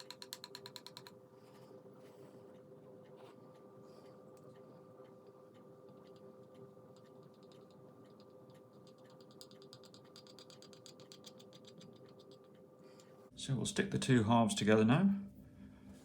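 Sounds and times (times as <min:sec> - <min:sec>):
faint rapid ticking: 0:00.0 - 0:13.2
faint steady hum: 0:00.0 - 0:16.0.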